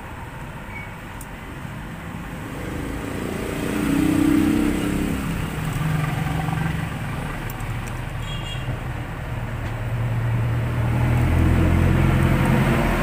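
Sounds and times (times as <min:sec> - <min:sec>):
vehicle engine running: 0:01.4 - 0:13.0.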